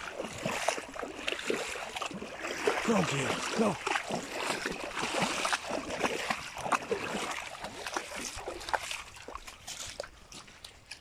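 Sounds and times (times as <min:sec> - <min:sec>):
dog splashing in water: 0:00.0 - 0:11.0.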